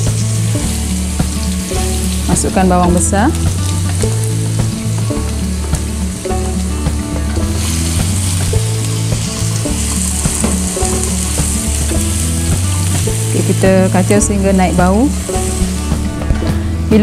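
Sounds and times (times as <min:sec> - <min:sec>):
onion and garlic sizzling in oil: 0:00.0 - 0:17.0.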